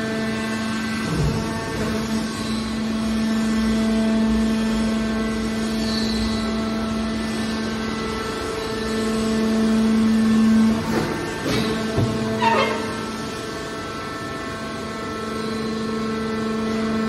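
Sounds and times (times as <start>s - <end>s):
hydraulic power unit humming: 0.0s - 17.0s.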